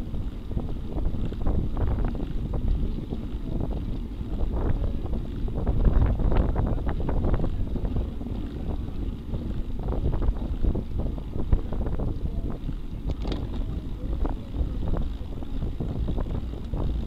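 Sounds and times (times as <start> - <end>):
small clicks and rattles: 0.0 - 17.0
tyres rumbling on asphalt: 0.0 - 17.0
wind buffeting microphone: 0.0 - 17.0.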